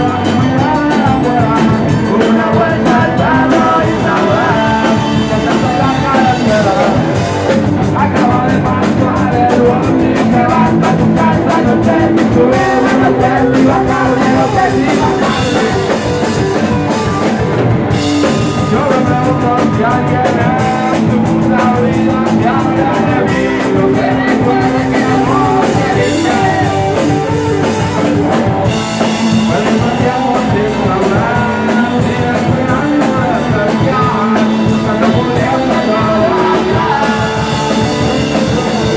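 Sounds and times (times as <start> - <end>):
bass guitar: 0.0 - 38.9
drum kit: 0.0 - 38.9
electric guitars: 0.0 - 38.9
man singing: 0.0 - 38.9.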